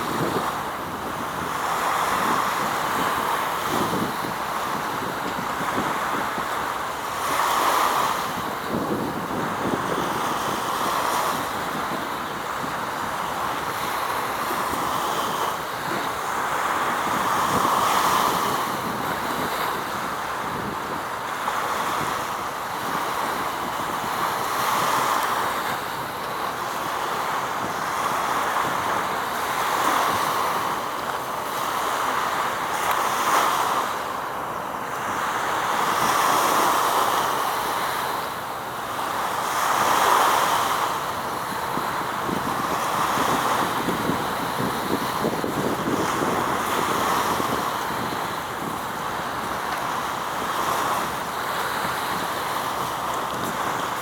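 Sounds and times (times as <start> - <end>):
wind on microphone: 0.0 - 34.0, 34.9 - 54.0
waves washing: 0.0 - 54.0.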